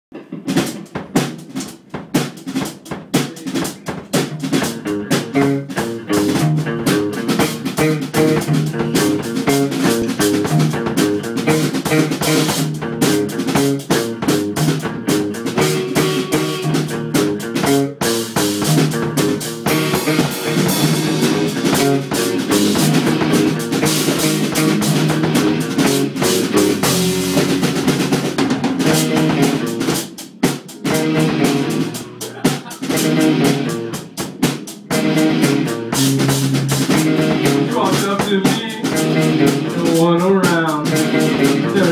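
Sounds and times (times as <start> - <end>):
drum hits: 0.1 - 41.9
rock band playing: 0.1 - 41.9.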